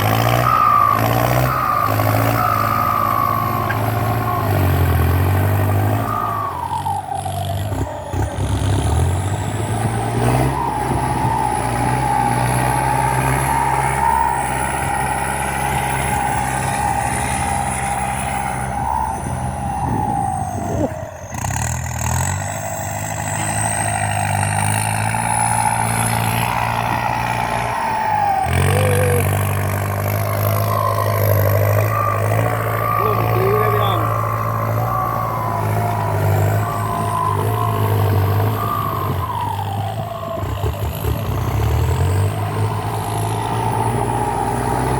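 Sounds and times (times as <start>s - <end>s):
tractor diesel engine under load: 0.0s - 44.9s
turbocharger whine: 0.0s - 44.9s.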